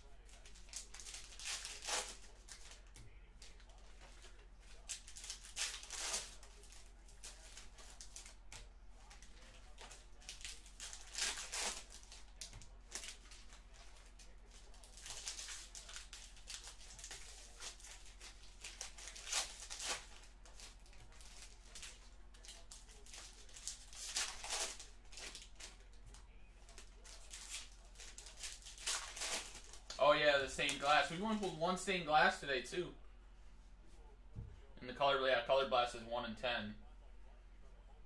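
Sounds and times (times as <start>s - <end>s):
trading cards and foil wrappers rustling: 0.0s - 32.4s.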